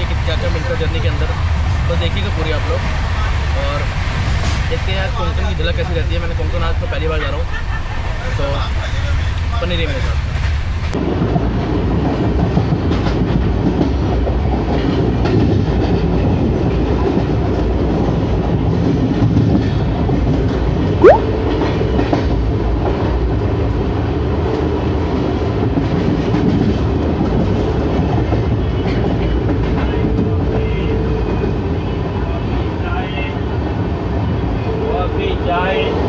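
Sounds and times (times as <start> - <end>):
train rumbling at speed: 0.0 - 20.8, 22.0 - 36.0.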